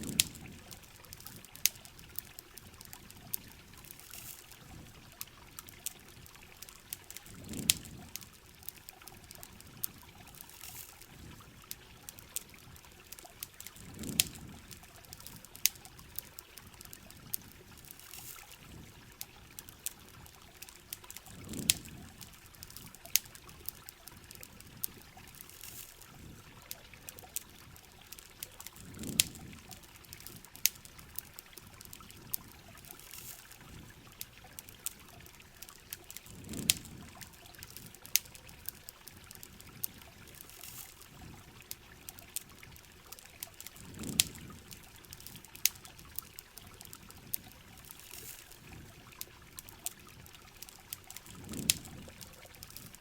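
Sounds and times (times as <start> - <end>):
campfire crackling and popping: 0.0 - 53.0
rain hiss: 0.0 - 53.0.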